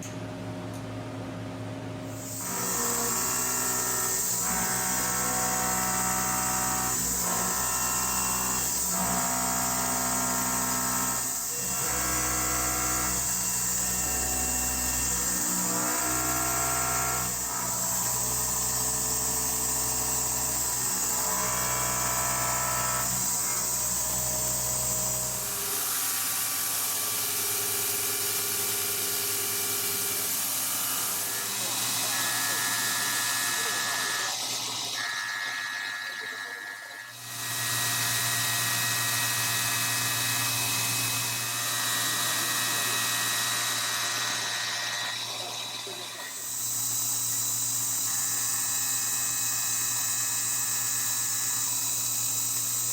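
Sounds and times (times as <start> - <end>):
machine tool cutting metal: 2.2 - 52.9.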